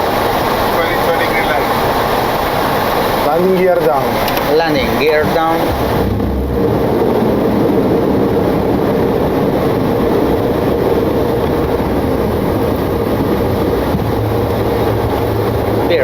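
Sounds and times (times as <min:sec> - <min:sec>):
aircraft cockpit rumble and air rush: 0:00.0 - 0:16.0.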